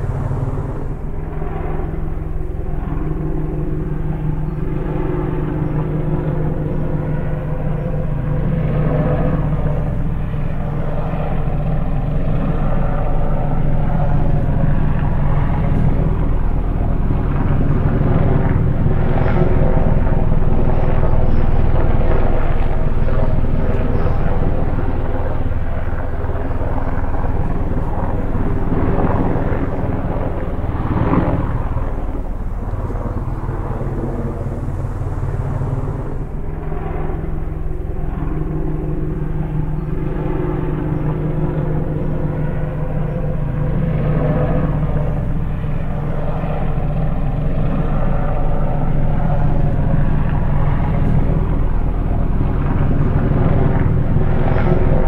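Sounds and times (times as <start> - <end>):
aircraft engine and propellers humming: 0.0 - 55.0.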